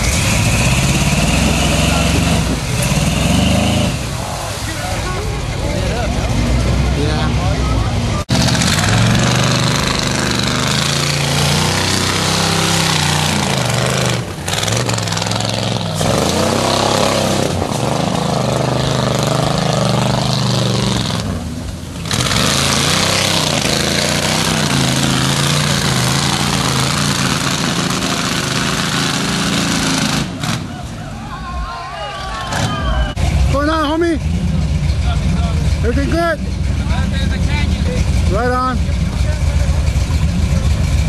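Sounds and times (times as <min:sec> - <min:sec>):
truck engine revving: 0:00.0 - 0:31.2, 0:32.3 - 0:41.0
tires throwing mud: 0:00.0 - 0:41.0.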